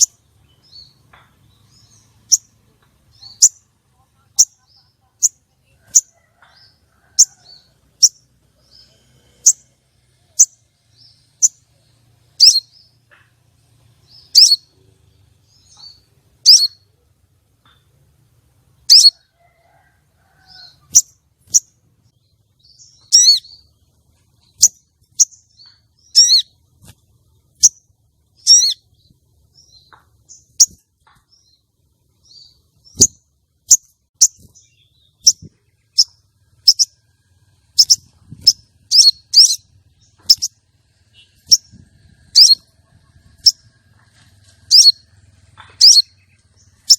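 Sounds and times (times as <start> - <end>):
bird chirping calls: 0.0 - 46.9.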